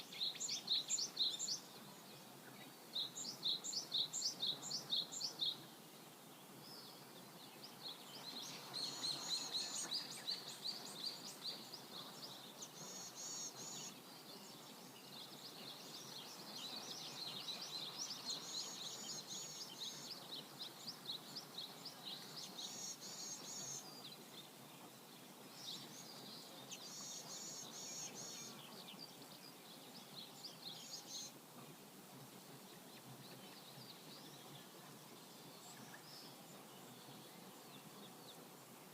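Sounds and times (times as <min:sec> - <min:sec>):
flowing river water: 0:00.0 - 0:37.2
songbirds chirping: 0:00.0 - 0:38.9.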